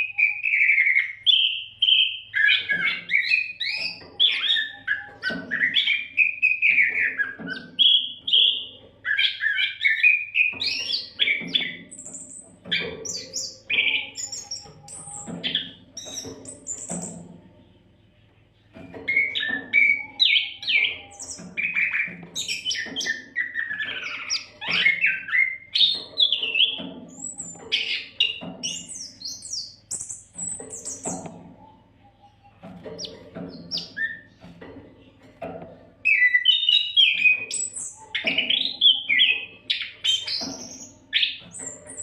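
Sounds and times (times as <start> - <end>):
bird singing whistles and chirps: 0.0 - 17.2, 18.8 - 31.3, 33.0 - 34.4, 36.0 - 42.0.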